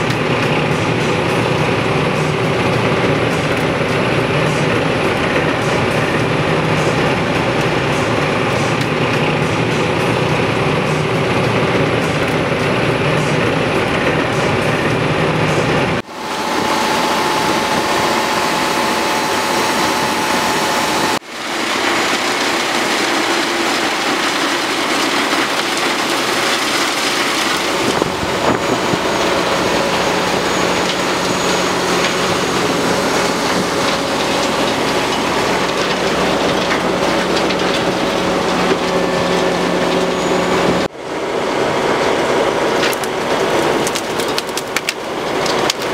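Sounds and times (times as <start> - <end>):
wood chipper chipping branches: 0.0 - 45.9.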